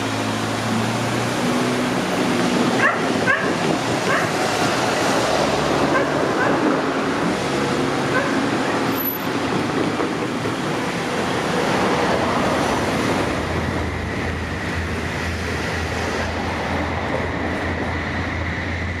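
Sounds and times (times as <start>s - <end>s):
train rushing rail noise: 0.0s - 19.0s.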